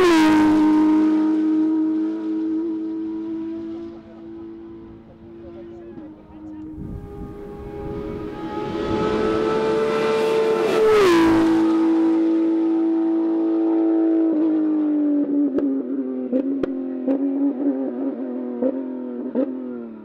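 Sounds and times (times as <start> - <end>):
rally car passing at speed: 0.0 - 20.0.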